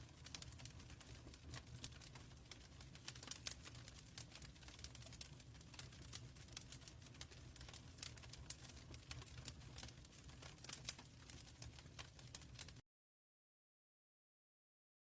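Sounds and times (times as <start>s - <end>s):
wood fire crackling: 0.0s - 12.8s.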